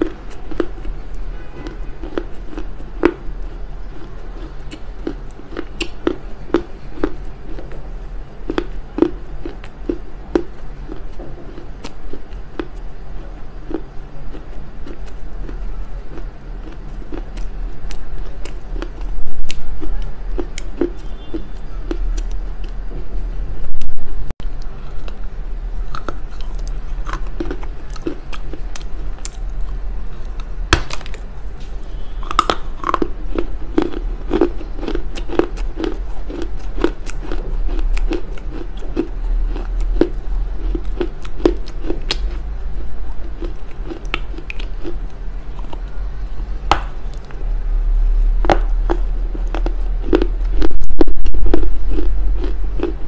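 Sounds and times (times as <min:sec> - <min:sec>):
chewing and crunching clay: 0:00.0 - 0:53.0.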